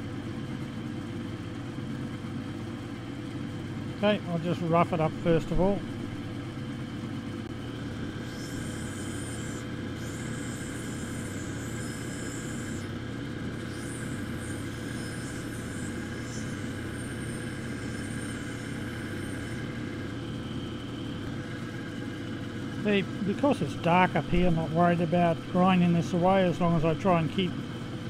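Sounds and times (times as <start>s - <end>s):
grinding machine motor running: 0.0s - 28.0s.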